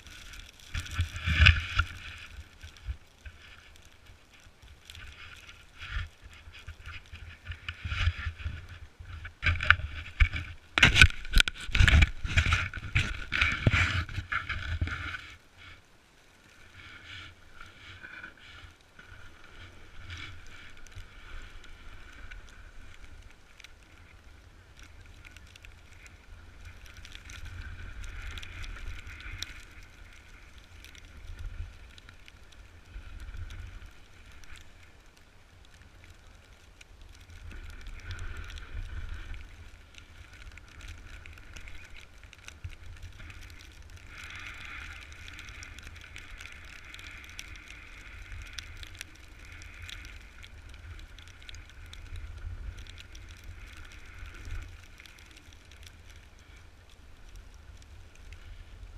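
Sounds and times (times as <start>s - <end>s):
wind rumble on microphone: 0.0s - 15.4s, 16.8s - 58.9s.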